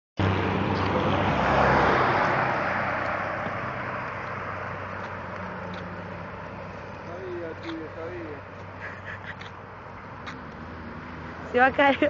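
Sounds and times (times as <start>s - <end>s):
vehicle passing by: 0.2s - 12.0s.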